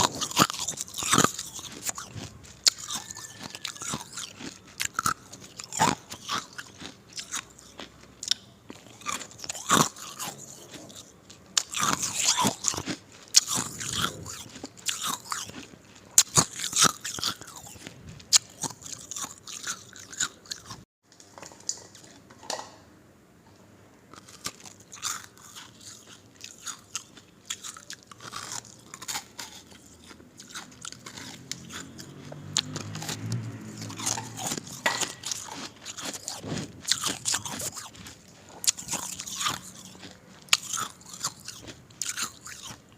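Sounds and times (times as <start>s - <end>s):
ice being chewed: 0.0s - 22.3s, 24.1s - 42.9s.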